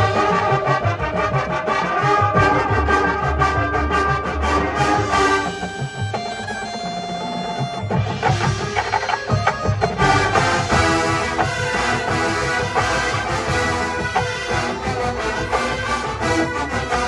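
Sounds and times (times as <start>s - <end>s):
drum and percussion hits: 0.0s - 17.0s
marching band playing: 0.0s - 17.0s.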